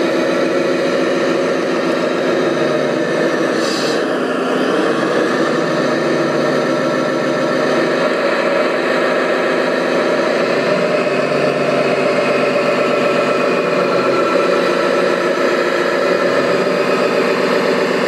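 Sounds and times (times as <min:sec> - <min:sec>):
remote control machines engine running: 0:00.0 - 0:18.0.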